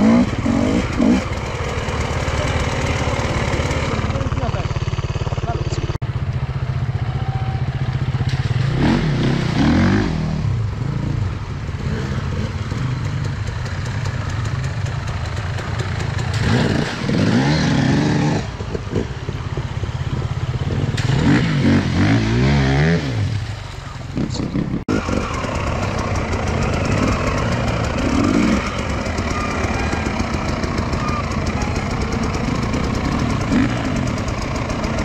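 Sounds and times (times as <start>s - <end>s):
motorcycle engines revving: 0.0s - 35.0s.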